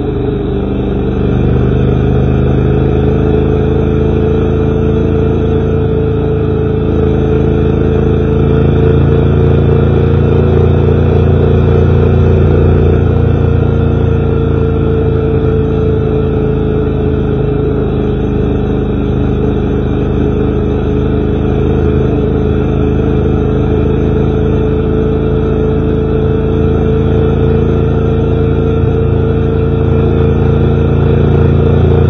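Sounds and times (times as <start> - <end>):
road and wind noise: 0.0 - 32.0
vehicle engine humming: 0.0 - 32.0.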